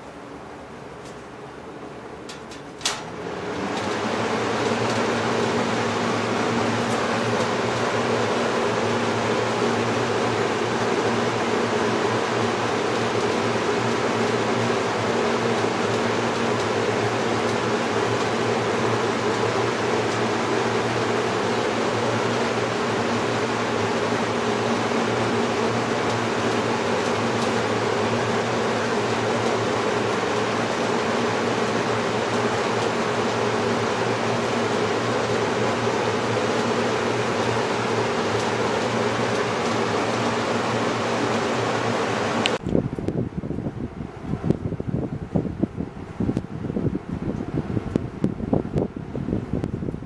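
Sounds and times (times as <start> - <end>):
box fan running: 0.0 - 50.0.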